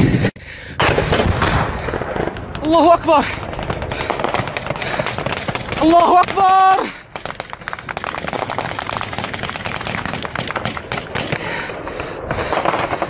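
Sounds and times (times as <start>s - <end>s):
gunfire crackle: 0.8s - 13.0s.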